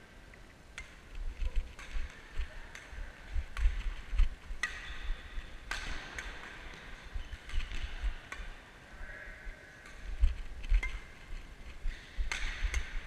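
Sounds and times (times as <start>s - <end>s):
racket hitting shuttlecock: 0.8s - 8.8s, 9.8s - 13.0s.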